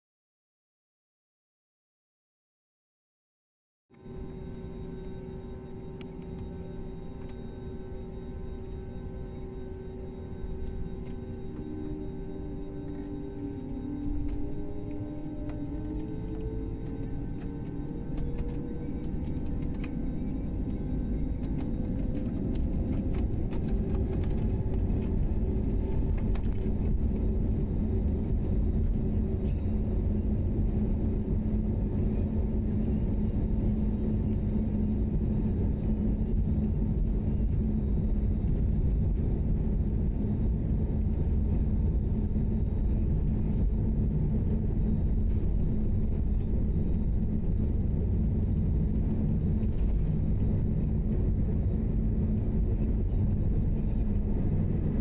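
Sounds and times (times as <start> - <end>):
jet engine whine: 3.9 - 55.0
jet engines rumbling: 4.0 - 55.0.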